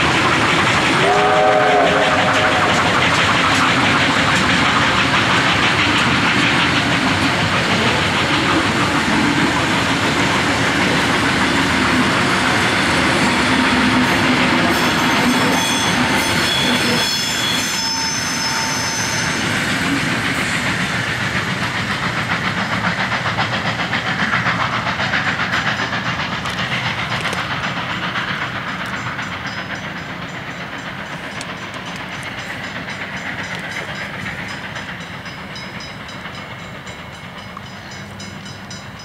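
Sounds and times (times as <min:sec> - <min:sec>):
steam hiss: 0:00.0 - 0:39.0
train wheels clattering on rails: 0:00.0 - 0:39.0.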